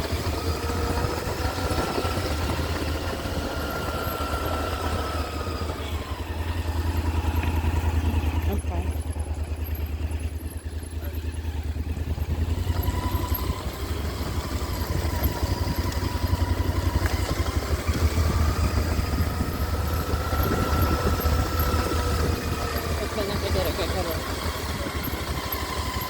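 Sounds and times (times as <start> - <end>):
motorcycle engine chugging: 0.0 - 26.0.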